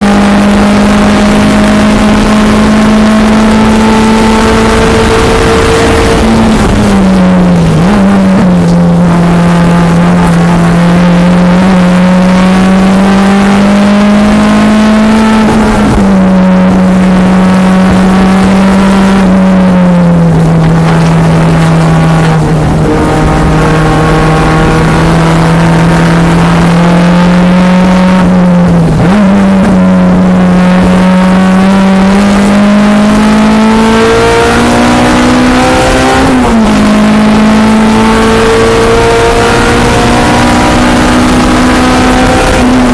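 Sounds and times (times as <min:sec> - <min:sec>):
car engine running hard: 0:00.0 - 0:42.9
road and wind noise: 0:00.0 - 0:42.9.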